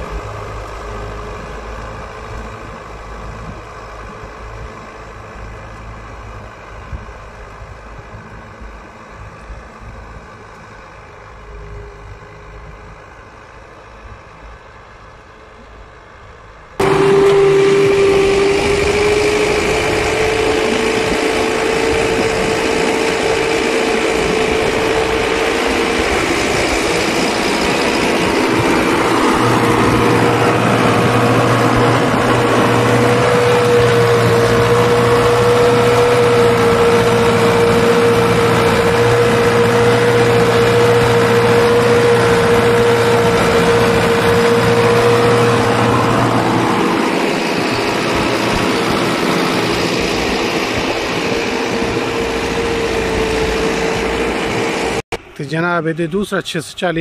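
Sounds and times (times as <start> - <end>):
steady engine whine: 0.0 - 57.0
tractor diesel engine under load: 0.0 - 57.0.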